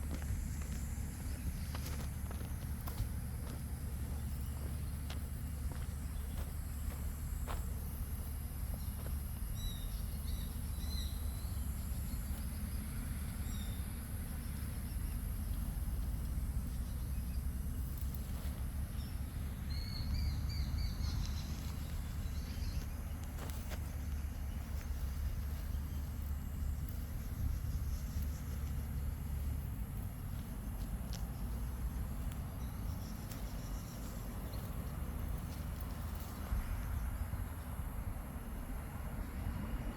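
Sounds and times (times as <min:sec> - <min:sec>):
small birds chirping: 0:00.0 - 0:37.4
low outdoor rumble: 0:00.0 - 0:39.9.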